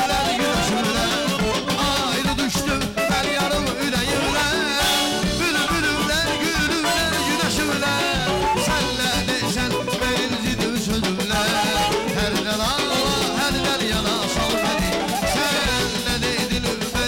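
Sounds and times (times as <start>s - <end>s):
clarinet melody: 0.0s - 10.5s, 11.4s - 16.0s
drum kit beat: 0.0s - 17.0s
keyboard: 0.0s - 17.0s
person singing into a microphone: 0.0s - 17.0s.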